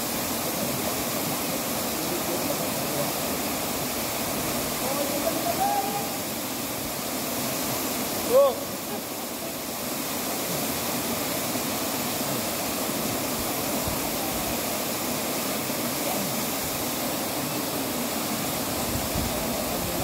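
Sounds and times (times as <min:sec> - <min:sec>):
waterfall rushing into pool: 0:00.0 - 0:20.0.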